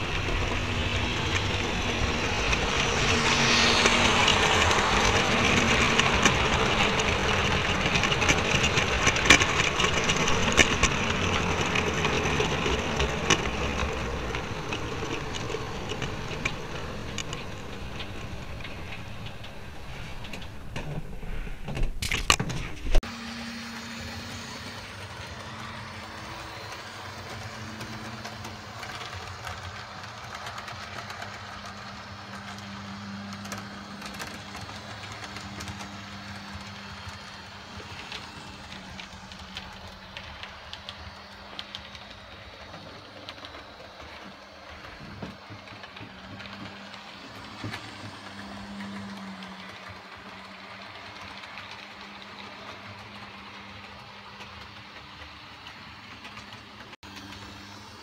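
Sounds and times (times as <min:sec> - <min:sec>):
model train motor hum: 0:00.0 - 0:20.7, 0:23.1 - 0:58.0
wheels clicking over rail joints: 0:00.0 - 0:58.0.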